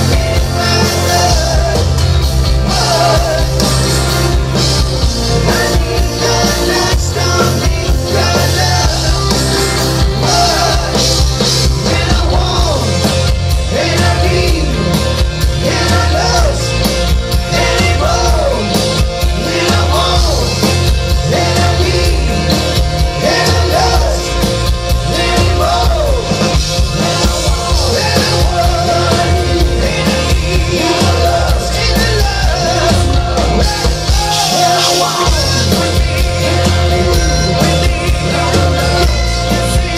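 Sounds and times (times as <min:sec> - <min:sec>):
person singing: 0:00.0 - 0:04.0, 0:05.1 - 0:39.9
bass guitar: 0:00.0 - 0:39.9
drum kit: 0:00.0 - 0:39.9
electric guitar: 0:00.0 - 0:39.9
keyboard: 0:00.0 - 0:39.9.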